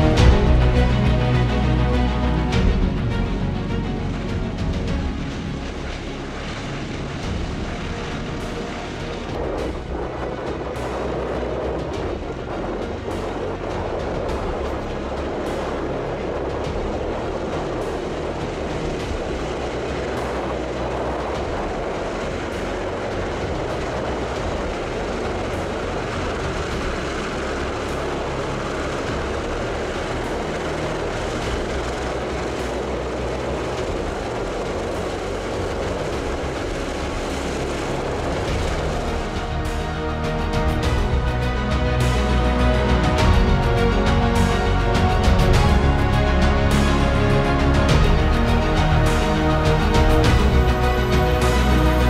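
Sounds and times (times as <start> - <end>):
radial piston engines running: 0.0 - 52.0.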